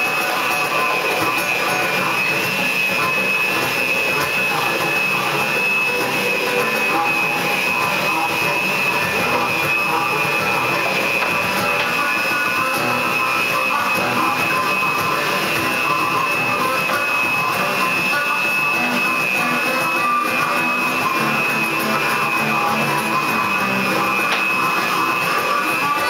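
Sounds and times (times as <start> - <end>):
harmonica chugging: 0.0 - 26.0.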